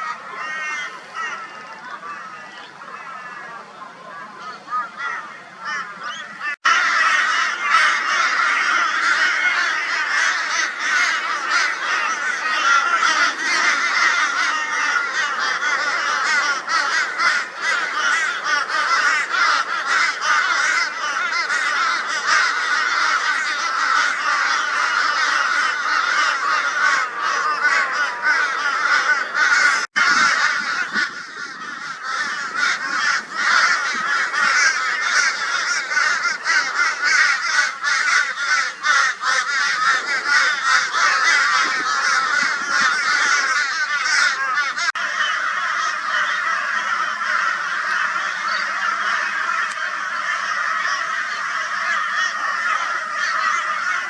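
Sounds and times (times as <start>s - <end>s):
crows cawing: 0.0s - 3.6s, 4.4s - 54.0s.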